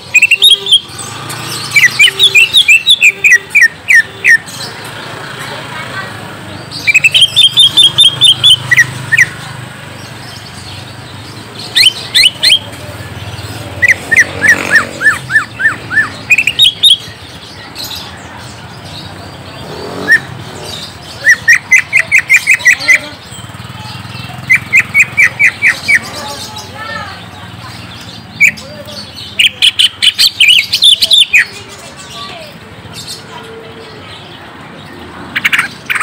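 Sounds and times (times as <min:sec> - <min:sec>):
bird chirping rapidly: 0:00.0 - 0:36.0.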